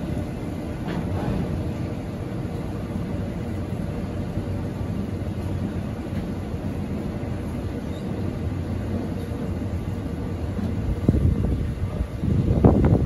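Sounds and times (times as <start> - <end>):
freight train wagons rumbling: 0.0 - 13.0.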